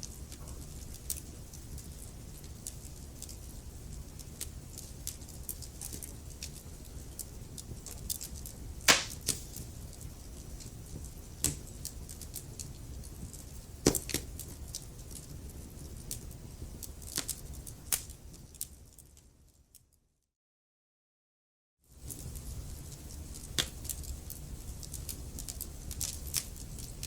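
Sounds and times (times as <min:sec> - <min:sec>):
wood fire crackling: 0:00.0 - 0:19.5, 0:21.9 - 0:27.0.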